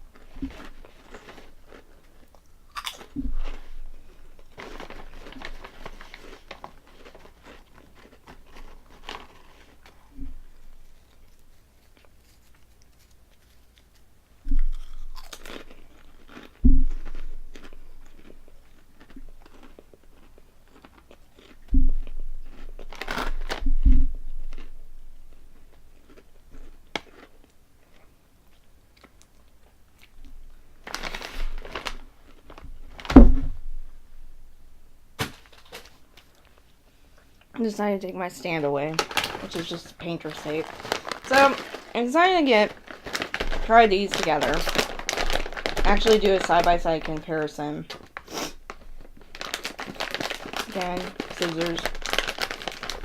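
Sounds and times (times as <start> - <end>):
crunchy snacks being chewed: 0.1 - 23.7, 24.4 - 33.0, 39.0 - 47.3, 47.9 - 53.0.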